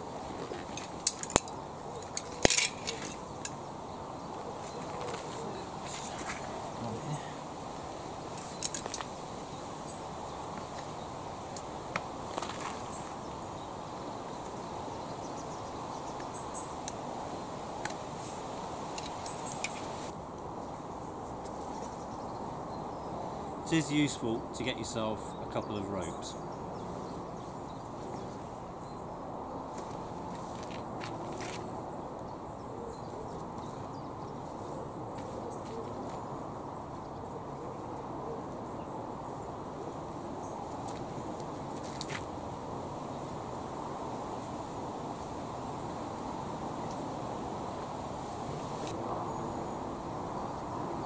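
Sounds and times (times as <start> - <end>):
outdoor background hiss: 0.0 - 51.0.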